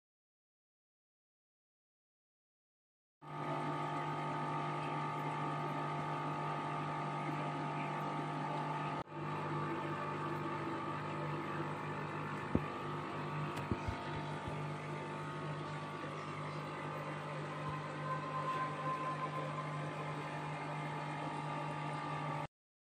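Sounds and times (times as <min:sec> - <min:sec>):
aquarium air pumps humming: 0:03.2 - 0:22.5.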